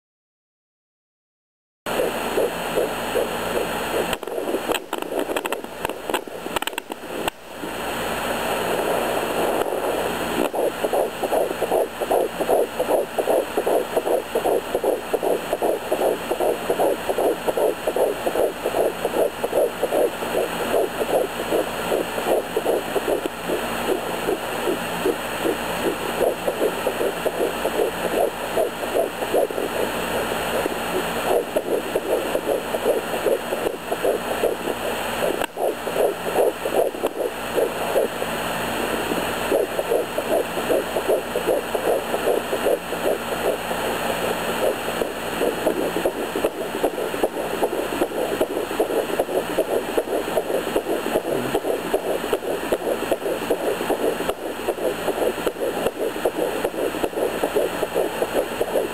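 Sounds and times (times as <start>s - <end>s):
scratchy probe clicks: 1.9s - 7.4s, 8.7s - 58.9s
fetal heartbeat whooshing pulse: 1.9s - 58.9s.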